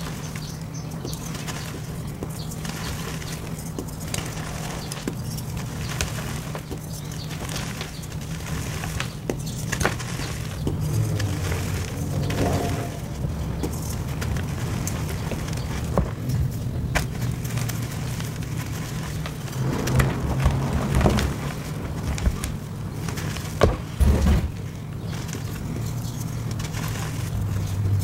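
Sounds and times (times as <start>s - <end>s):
chalk crunching and snapping: 0.0s - 28.0s.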